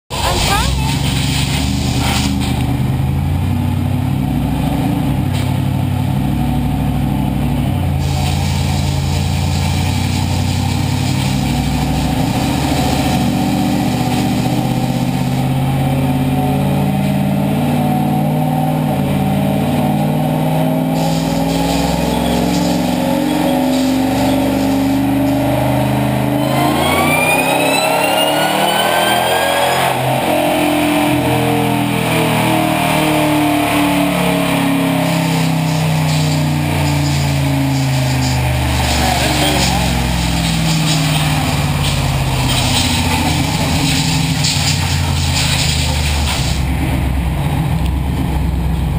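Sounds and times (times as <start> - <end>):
rising supercharger whine: 0.2 - 48.9
truck engine running under load: 0.2 - 48.9.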